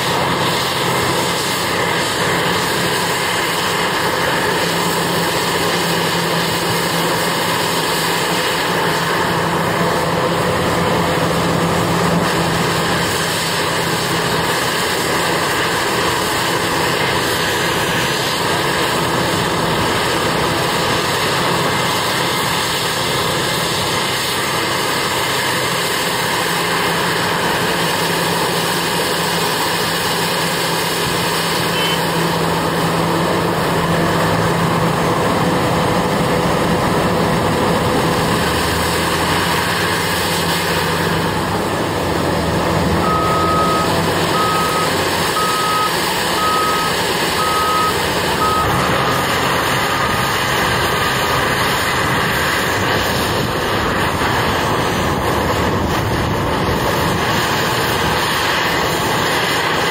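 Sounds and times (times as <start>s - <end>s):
large diesel engine drone: 0.0s - 59.9s.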